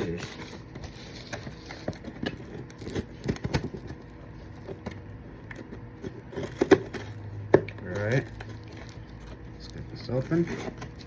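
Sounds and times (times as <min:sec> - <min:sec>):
scissors and cardboard handled: 0:00.0 - 0:11.0.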